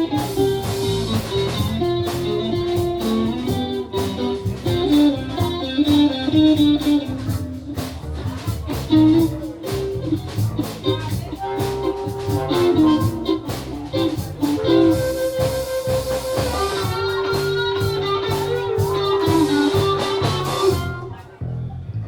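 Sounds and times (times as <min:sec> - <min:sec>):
electric guitar solo: 0:00.0 - 0:21.2
bass and drum groove: 0:00.0 - 0:22.0.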